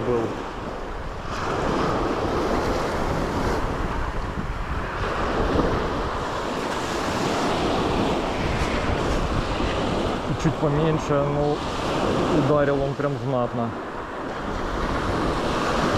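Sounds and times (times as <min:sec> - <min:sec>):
surf washing onto shore: 0:00.0 - 0:15.9
wind buffeting microphone: 0:00.0 - 0:15.9.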